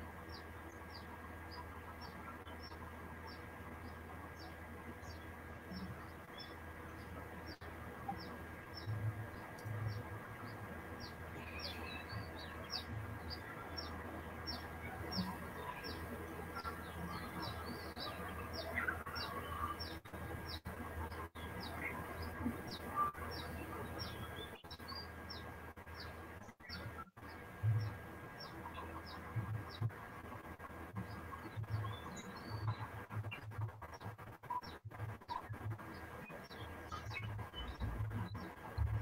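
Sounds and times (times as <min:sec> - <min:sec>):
bird chirping: 0:00.0 - 0:39.0
low electrical hum: 0:00.0 - 0:39.0.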